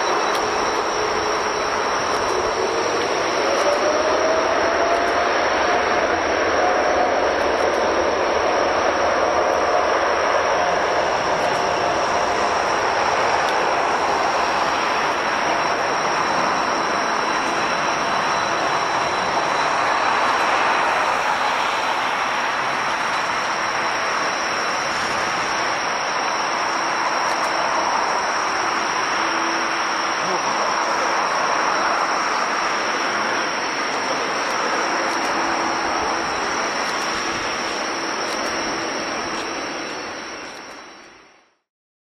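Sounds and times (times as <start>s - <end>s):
jet engines running: 0.0s - 41.7s.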